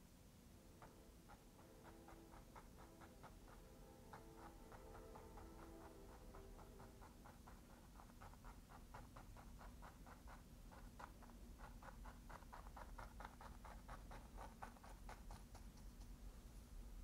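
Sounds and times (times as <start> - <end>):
brush tapping on canvas: 0.8 - 16.3.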